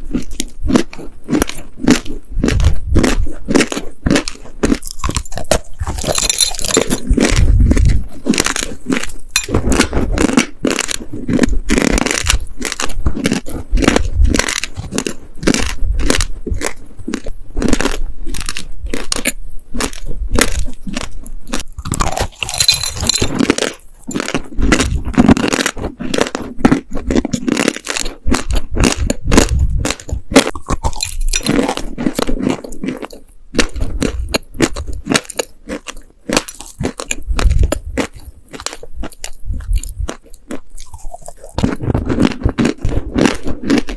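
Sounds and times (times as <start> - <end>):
crunching of dry cookies: 0.0 - 43.9.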